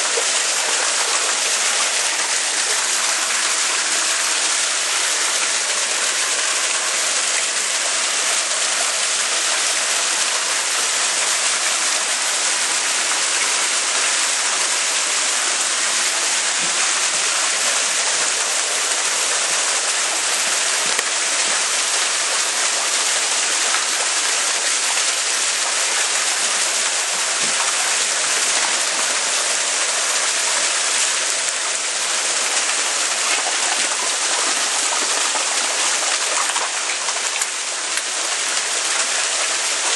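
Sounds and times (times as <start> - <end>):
churned water splashing: 0.0 - 39.9.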